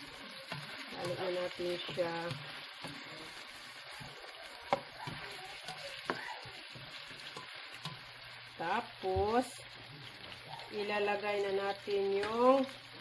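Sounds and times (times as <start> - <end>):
chicken sizzling in oil: 0.0 - 13.0
spatula stirring in pan: 0.0 - 13.0.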